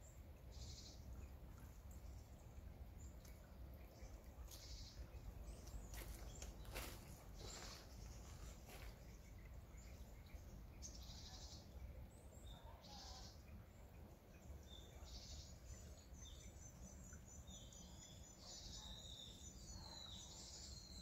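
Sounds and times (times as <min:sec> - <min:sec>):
trickling stream: 0:00.0 - 0:21.0.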